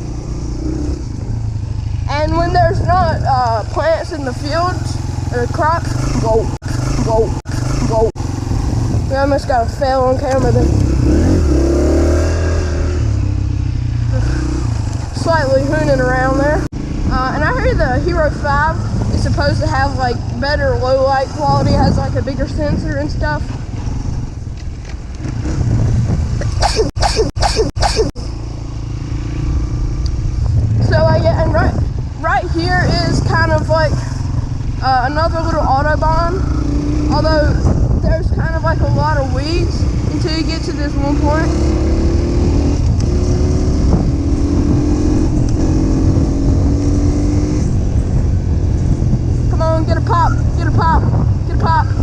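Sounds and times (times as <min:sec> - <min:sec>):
dirt bike engine revving: 0:00.0 - 0:24.3, 0:25.2 - 0:52.0.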